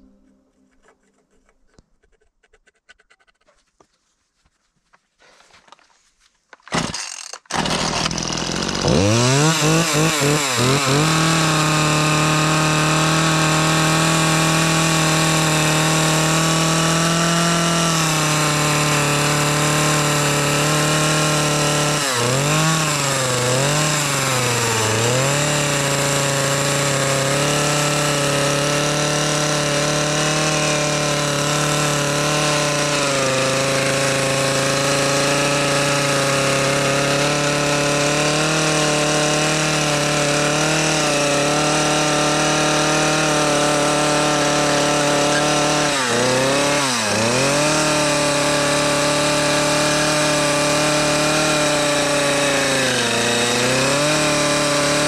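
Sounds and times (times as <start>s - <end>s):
chainsaw cutting wood: 6.6s - 55.0s.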